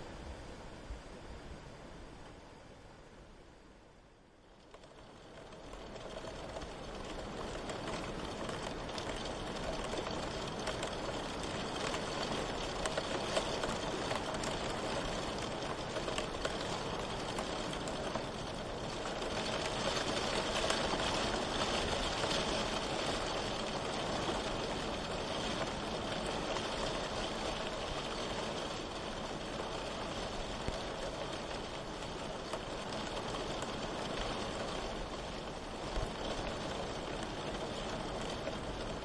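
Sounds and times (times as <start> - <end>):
rain falling: 4.3 - 39.0
raindrop ticks: 4.5 - 39.0.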